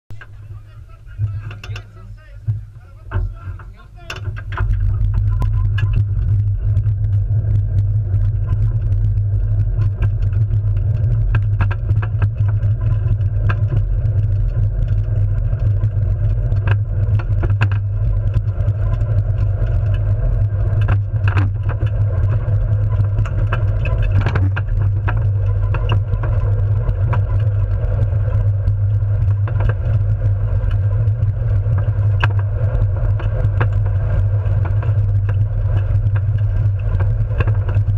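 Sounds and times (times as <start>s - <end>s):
wheels rumbling on asphalt: 0.0s - 37.9s
chassis clicks and rattles: 0.1s - 37.9s
wind on microphone: 0.2s - 37.9s.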